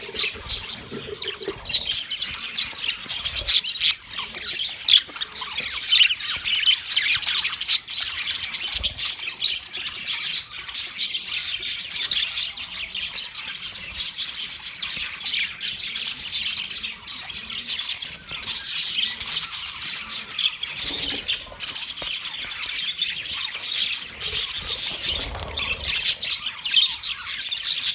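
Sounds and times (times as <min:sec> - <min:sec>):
budgerigars chattering: 0:00.0 - 0:27.9.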